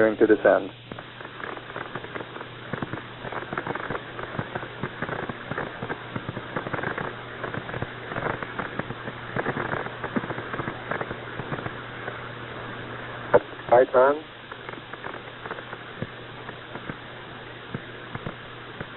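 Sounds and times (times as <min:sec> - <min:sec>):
radio static crackle and hiss: 0:00.0 - 0:18.9
steady low hum: 0:00.0 - 0:18.9.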